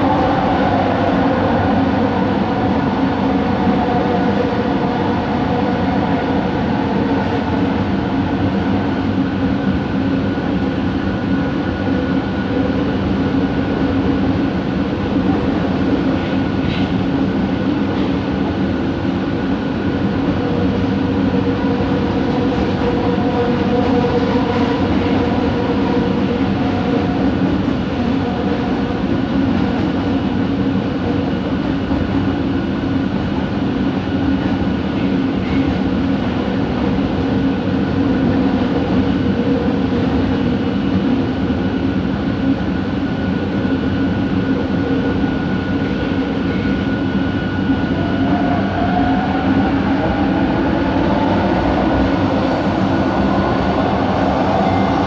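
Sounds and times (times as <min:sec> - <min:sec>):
metro train rumble and hum: 0:00.0 - 0:55.0.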